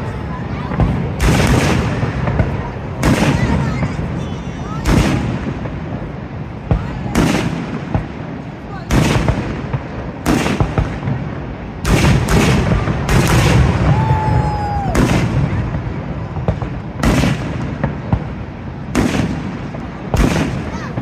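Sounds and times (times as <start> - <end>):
continuous rumble: 0.0 - 21.0
fireworks booming bangs: 0.0 - 21.0.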